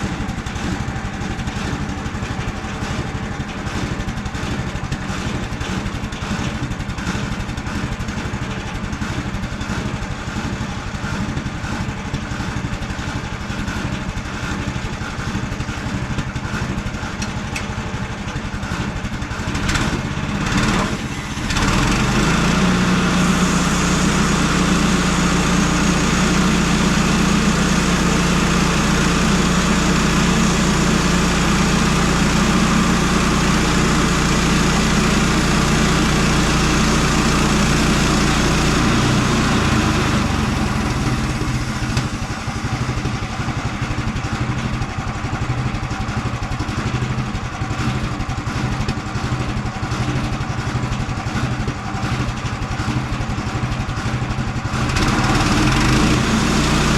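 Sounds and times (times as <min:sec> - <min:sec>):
gasoline engine idling and revving: 0:00.0 - 0:56.9.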